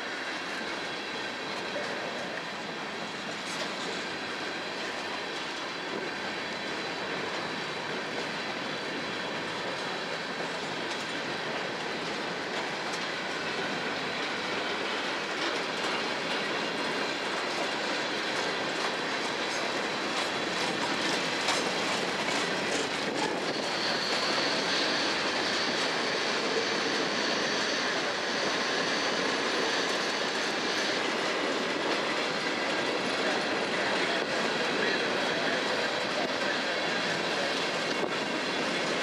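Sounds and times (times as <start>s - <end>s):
steel wheels on rails: 0.0s - 39.0s.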